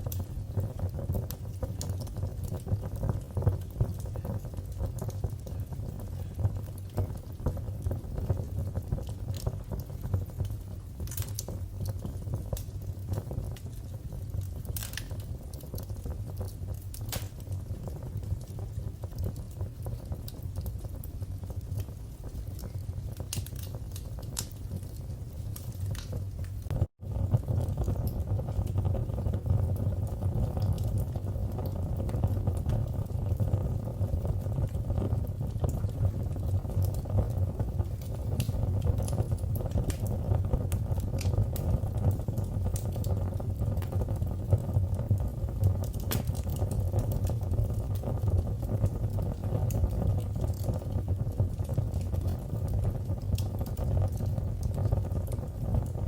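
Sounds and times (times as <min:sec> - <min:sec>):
fire crackles and pops: 0:00.0 - 0:56.0
low rumble of flames: 0:00.0 - 0:56.0.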